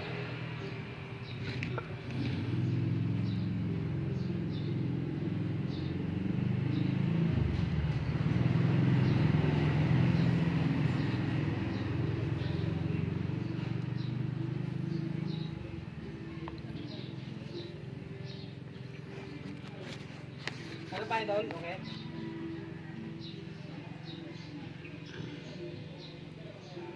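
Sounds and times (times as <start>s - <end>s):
engine low rumble: 0.0s - 26.9s.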